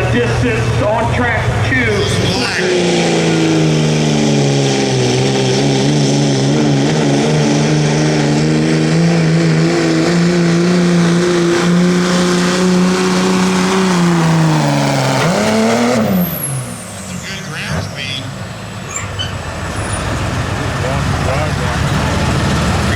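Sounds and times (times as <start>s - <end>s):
engine at high revs under load: 2.2s - 17.8s, 18.8s - 22.9s.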